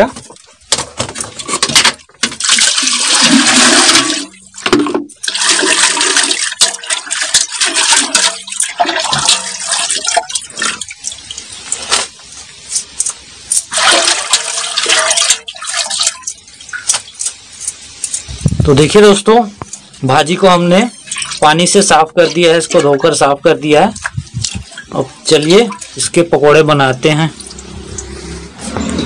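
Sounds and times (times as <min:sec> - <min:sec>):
water pouring into metal pot: 0:00.0 - 0:29.0.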